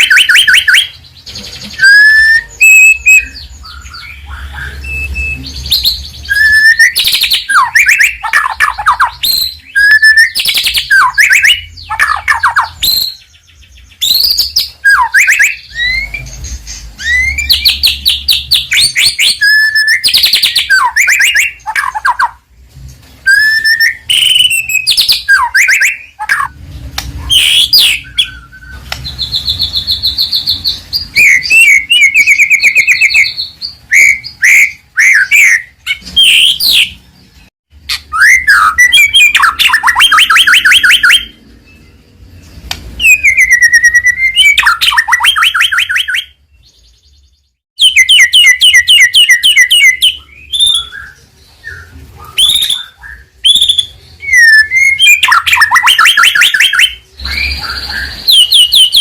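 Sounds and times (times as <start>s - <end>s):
songbird singing whistles and trills: 0.0s - 22.5s, 23.2s - 59.0s.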